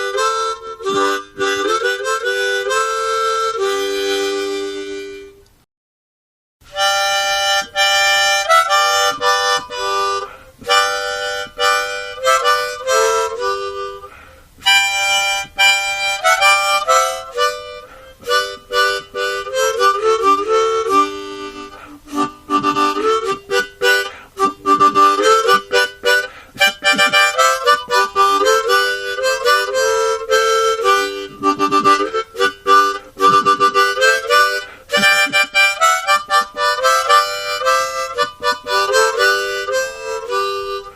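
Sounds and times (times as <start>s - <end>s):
harmonica melody: 0.0s - 5.5s, 6.7s - 40.9s.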